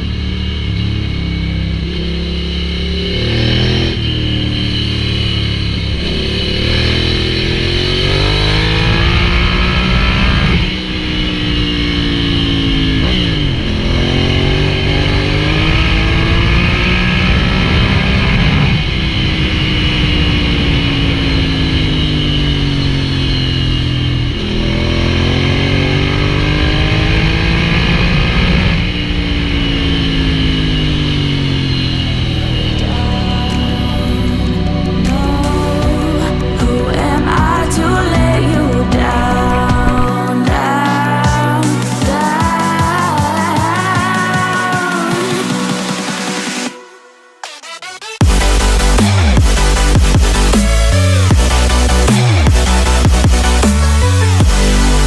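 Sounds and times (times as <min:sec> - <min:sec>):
motorcycle engine revving: 0:00.0 - 0:46.8, 0:48.2 - 0:55.0.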